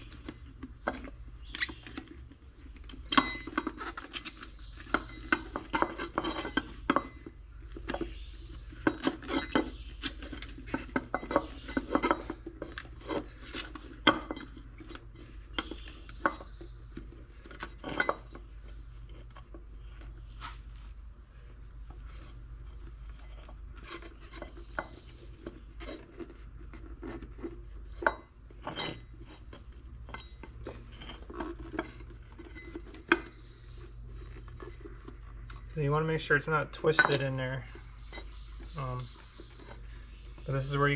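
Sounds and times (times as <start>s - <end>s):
clicks and knocks handling tire: 0.0s - 40.9s.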